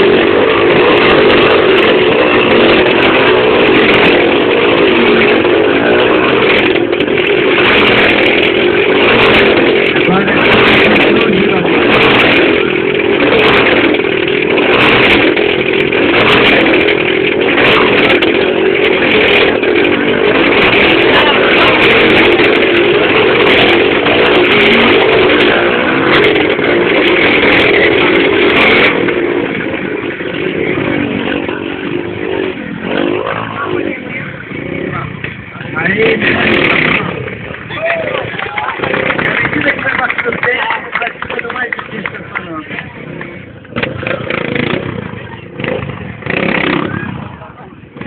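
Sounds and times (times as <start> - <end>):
motorcycle engines revving hard: 0.0 - 48.0.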